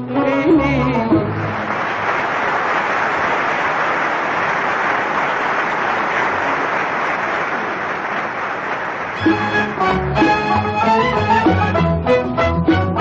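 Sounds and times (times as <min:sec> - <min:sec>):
audience applauding: 0:01.2 - 0:12.2.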